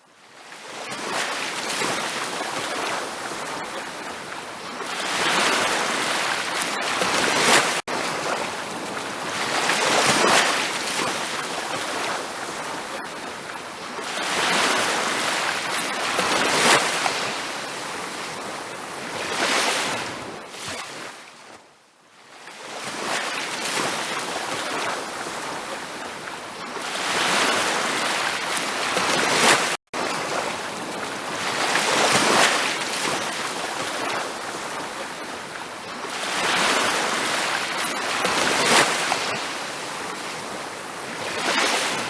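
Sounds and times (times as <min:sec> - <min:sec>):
ocean surf washing onto beach: 0:00.6 - 0:21.2, 0:22.6 - 0:42.0.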